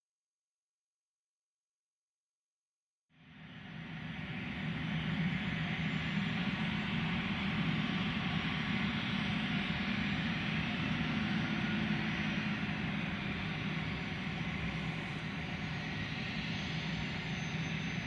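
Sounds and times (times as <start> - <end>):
jet engines running at low power: 3.2 - 18.0.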